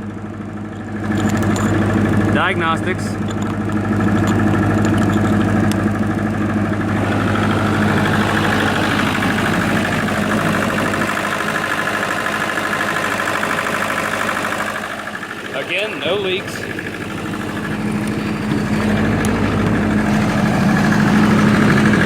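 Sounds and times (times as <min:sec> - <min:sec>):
diesel generator humming: 0:00.0 - 0:22.0.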